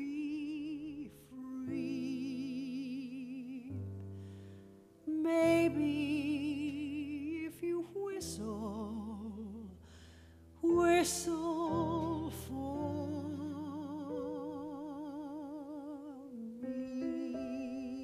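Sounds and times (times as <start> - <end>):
woman singing a ballad: 0.0 - 4.0, 5.0 - 9.9, 10.6 - 18.0
piano chords: 0.0 - 18.0.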